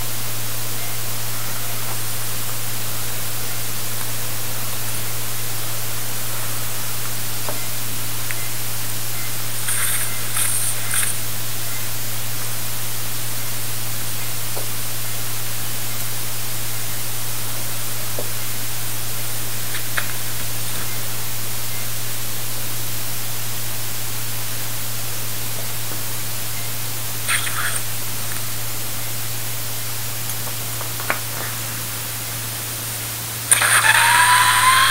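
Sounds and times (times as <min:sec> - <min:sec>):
low hum: 0:00.0 - 0:34.9
steady hiss: 0:00.0 - 0:34.9.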